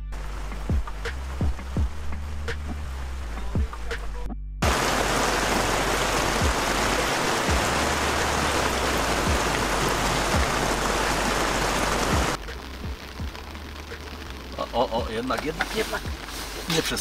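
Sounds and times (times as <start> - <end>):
dull low thumps: 0.0 - 16.7
heavy rain pouring: 0.1 - 3.9, 4.6 - 17.0.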